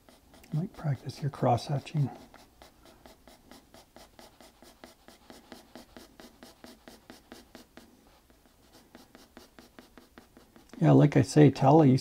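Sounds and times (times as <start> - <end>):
pencil scratching on paper: 0.0 - 11.4.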